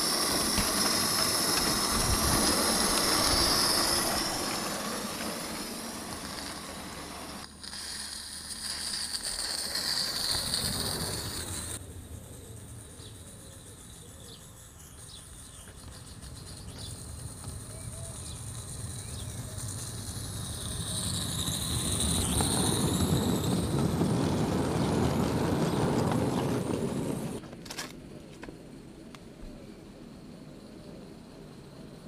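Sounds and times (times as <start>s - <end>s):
model steam train running: 0.0s - 27.4s.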